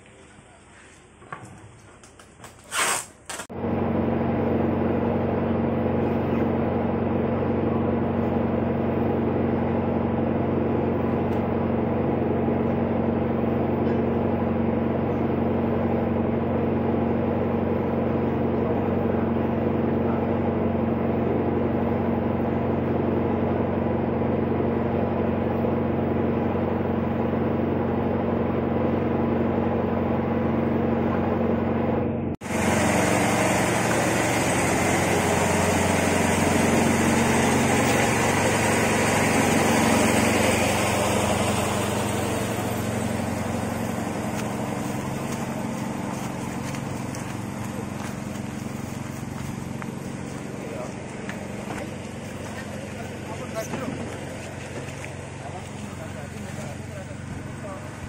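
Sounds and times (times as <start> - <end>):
mechanical motor hum: 3.4 - 58.0.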